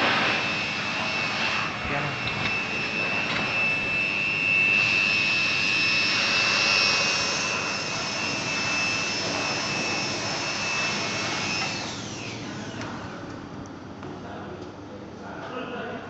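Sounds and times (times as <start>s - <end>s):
laser welder whine and hiss: 0.0s - 13.3s.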